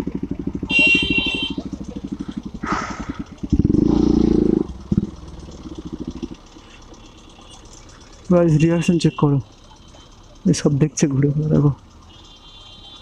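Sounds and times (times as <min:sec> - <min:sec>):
motorcycle engine popping and revving: 0:00.0 - 0:13.0.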